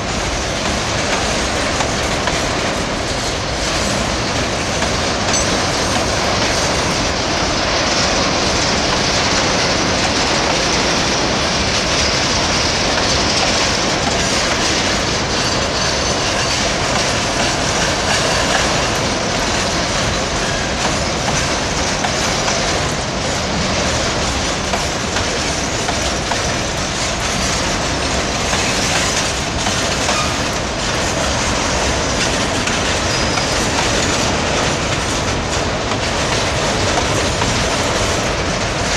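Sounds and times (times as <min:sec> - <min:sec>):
steel train wheels on rails: 0:00.0 - 0:38.9.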